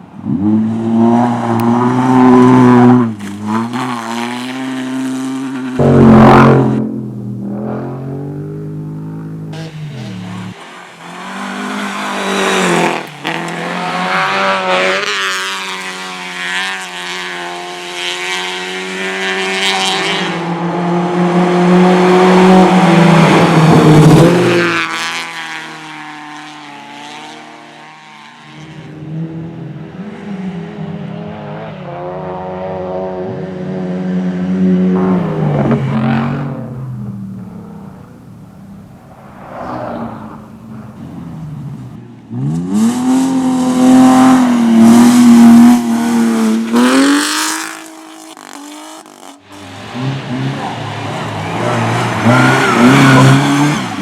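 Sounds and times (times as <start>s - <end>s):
car passing loudly: 0.0s - 54.0s
rally car engines revving: 0.0s - 54.0s.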